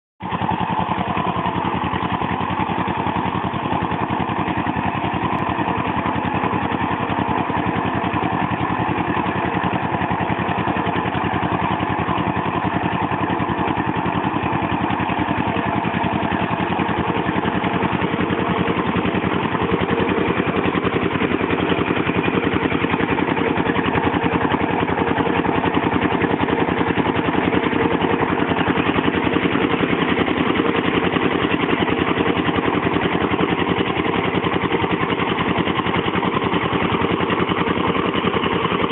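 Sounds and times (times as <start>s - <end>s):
diesel engine chugging: 0.2s - 38.9s.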